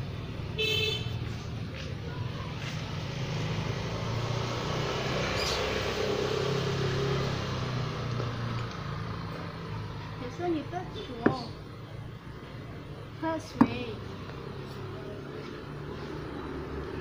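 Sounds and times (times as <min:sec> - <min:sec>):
traffic engine hum: 0:00.0 - 0:17.0.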